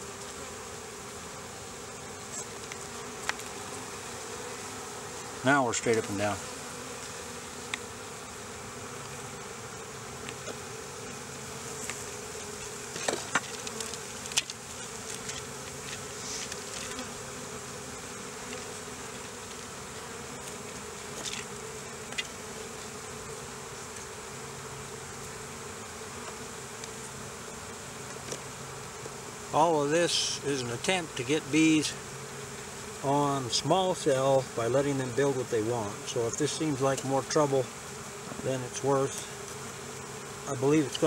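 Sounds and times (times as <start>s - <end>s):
honey bees buzzing: 0.0s - 41.0s.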